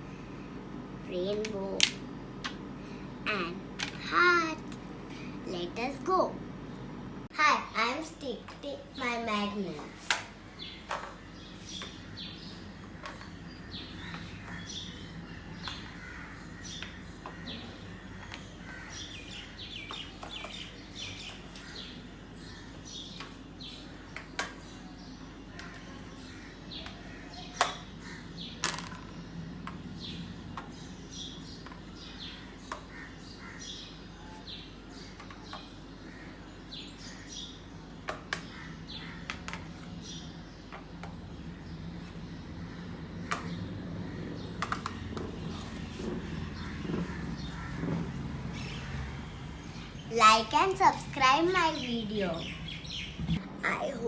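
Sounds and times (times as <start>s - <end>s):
steady low hum: 0.0s - 54.0s
small birds chirping: 7.4s - 54.0s.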